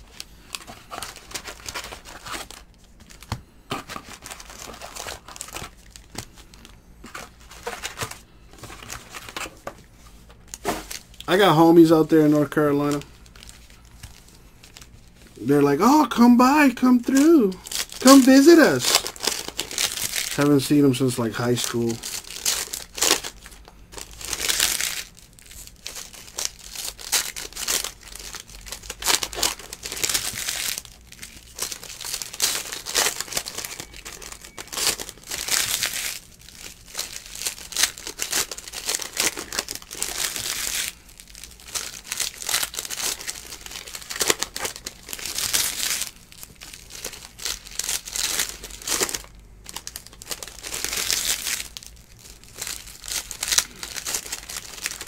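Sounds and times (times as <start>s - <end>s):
plastic wrappers crinkling and tearing: 0.0s - 55.0s.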